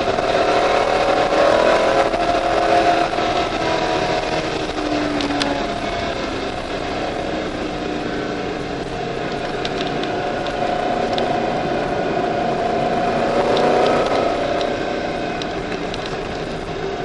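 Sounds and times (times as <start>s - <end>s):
car engine under load: 0.0s - 17.0s
road noise: 0.0s - 17.0s.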